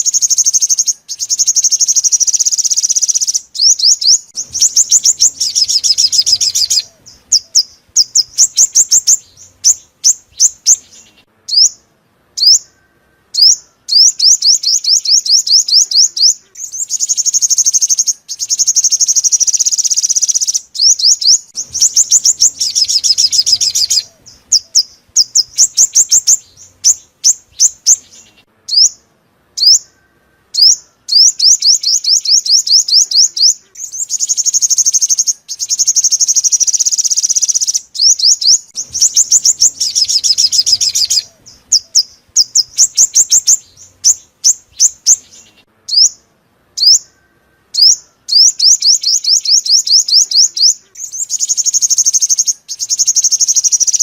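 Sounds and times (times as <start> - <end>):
sunbird chirps and trills: 0.0 - 54.0.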